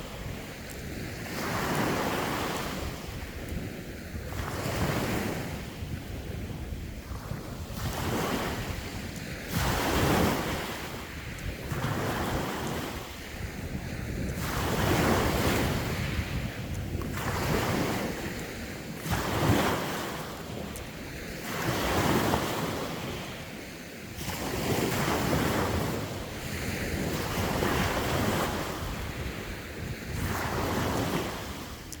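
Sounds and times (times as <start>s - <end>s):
sea waves breaking on shore: 0.0s - 32.0s
wind on microphone: 0.0s - 32.0s.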